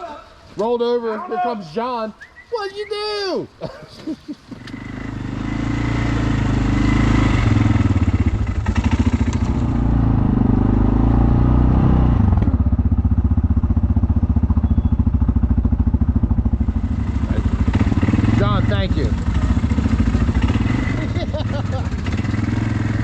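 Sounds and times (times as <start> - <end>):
atv engine running and idling: 4.5 - 23.0.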